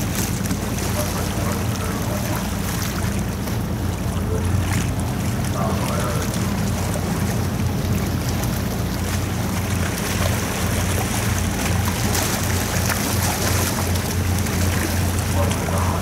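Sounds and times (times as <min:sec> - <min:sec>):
ship engines droning: 0:00.0 - 0:16.0
wind: 0:00.0 - 0:16.0.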